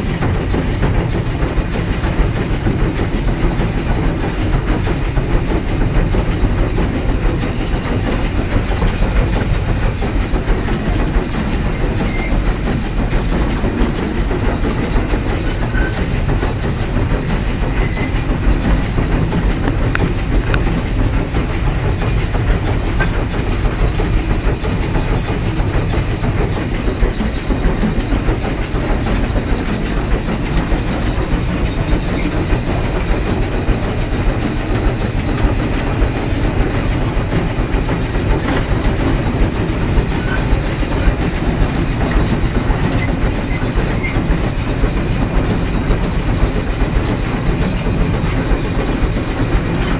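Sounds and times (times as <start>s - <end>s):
steam locomotive wheels rumbling on rail: 0.0s - 49.9s.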